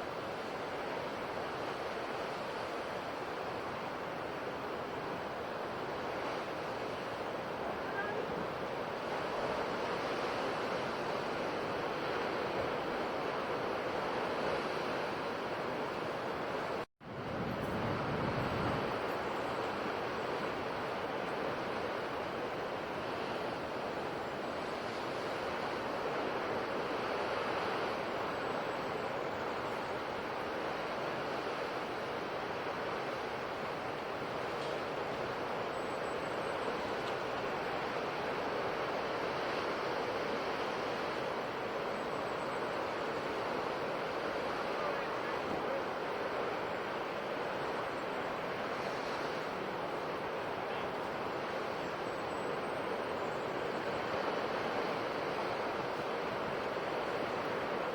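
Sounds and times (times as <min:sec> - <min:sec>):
sea waves washing onto shore: 0:00.0 - 0:57.9.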